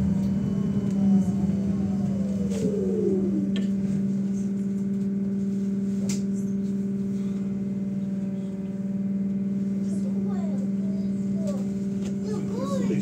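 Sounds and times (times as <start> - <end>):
trolleybus electrical hum: 0.0 - 13.0.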